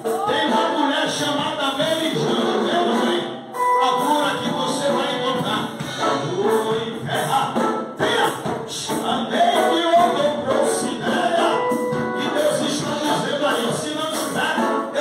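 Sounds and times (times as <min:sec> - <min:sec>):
man singing into microphone: 0:00.0 - 0:15.0
voices singing along: 0:00.0 - 0:15.0.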